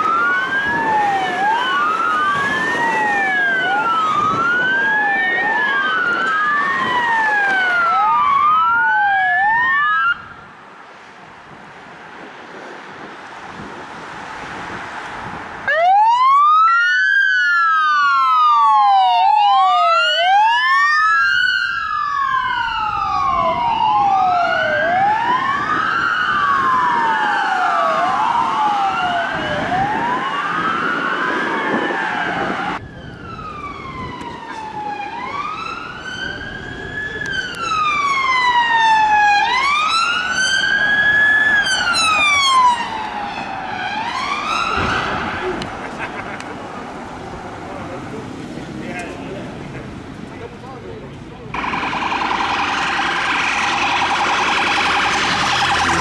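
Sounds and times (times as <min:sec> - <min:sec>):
police sirens wailing: 0:00.0 - 0:10.5, 0:15.2 - 0:56.0.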